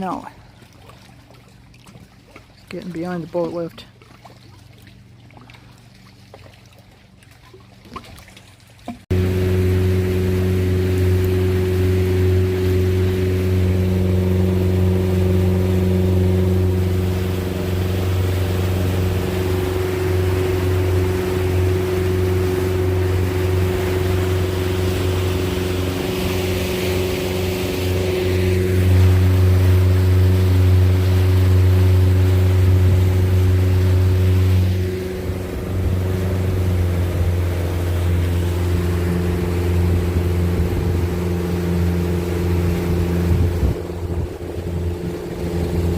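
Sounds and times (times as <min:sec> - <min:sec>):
motorboat engine running: 0:00.0 - 0:45.9.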